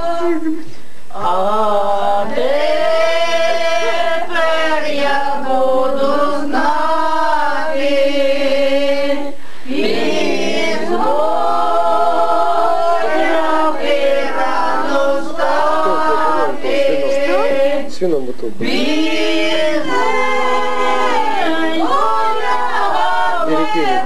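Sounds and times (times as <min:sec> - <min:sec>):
group singing unaccompanied: 0:01.1 - 0:18.0, 0:18.6 - 0:24.0.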